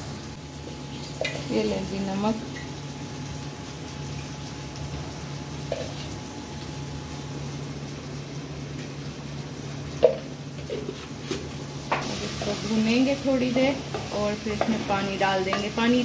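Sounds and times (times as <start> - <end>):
food frying in a pan: 0.0 - 16.0
gas burner hum: 0.0 - 16.0.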